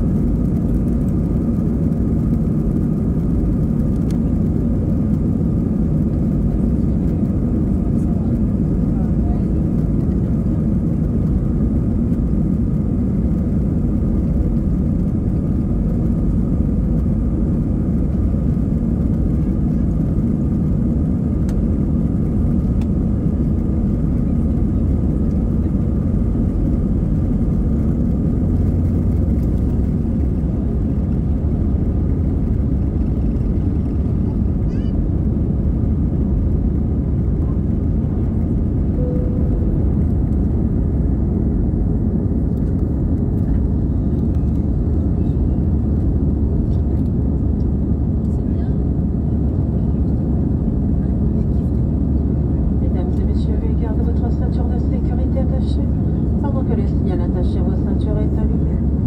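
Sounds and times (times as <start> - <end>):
jet engine roar: 0.0 - 59.0
runway rumble: 0.0 - 59.0.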